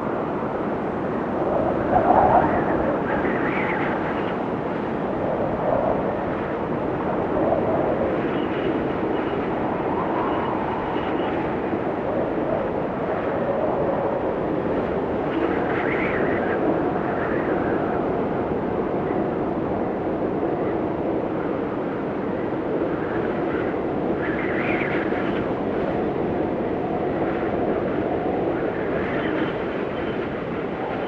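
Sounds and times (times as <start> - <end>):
blizzard wind blowing hard: 0.0 - 31.0.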